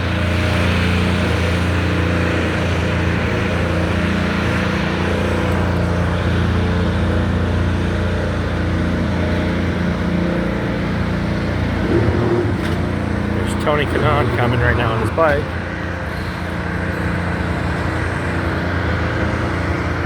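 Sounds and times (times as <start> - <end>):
motor humming: 0.0 - 20.0
outdoor background noise: 0.0 - 20.0.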